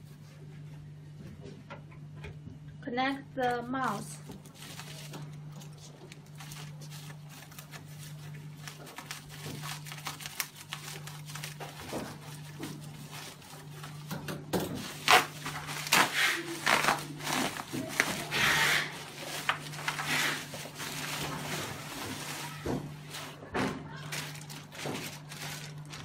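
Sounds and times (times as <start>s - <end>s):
plastic wrapping crinkling: 3.9s - 26.0s.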